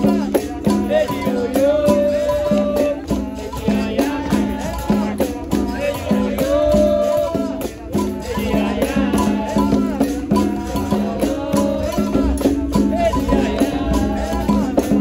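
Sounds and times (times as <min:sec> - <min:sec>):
rattle shaking: 0:00.0 - 0:15.0
voices singing held notes: 0:00.0 - 0:15.0.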